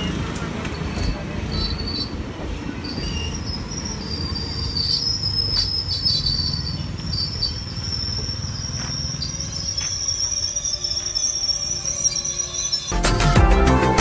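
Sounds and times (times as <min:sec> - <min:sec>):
train rumble: 0:00.0 - 0:13.0
wheel squeal: 0:00.0 - 0:13.0.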